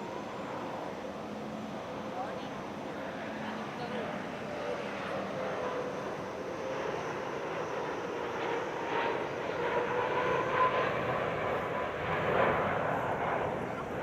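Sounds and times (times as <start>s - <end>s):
jet airliner engines roaring: 0.0s - 14.0s.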